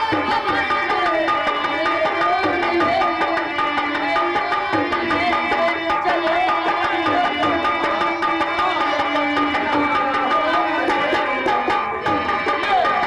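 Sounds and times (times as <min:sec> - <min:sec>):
hand drums: 0:00.0 - 0:13.0.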